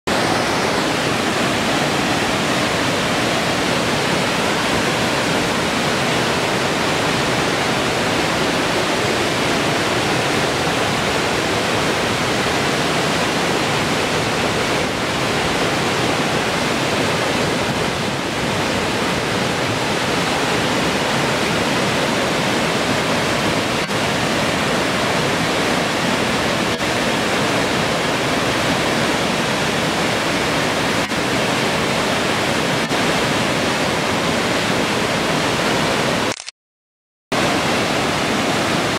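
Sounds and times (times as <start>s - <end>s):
waterfall rushing and splashing: 0.1s - 36.3s, 37.3s - 38.9s.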